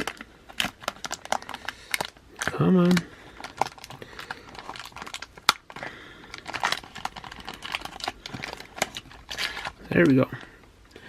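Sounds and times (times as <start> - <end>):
paper wrapper crinkling: 0.0 - 10.5.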